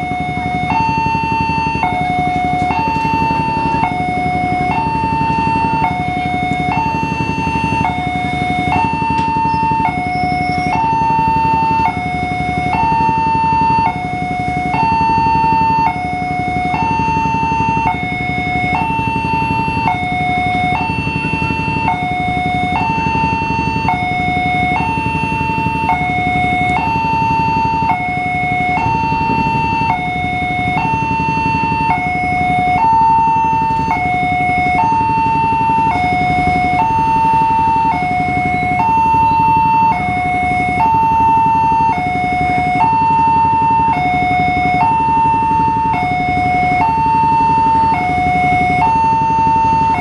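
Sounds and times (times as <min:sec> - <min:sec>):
two-tone electronic alarm: 0:00.0 - 0:50.0.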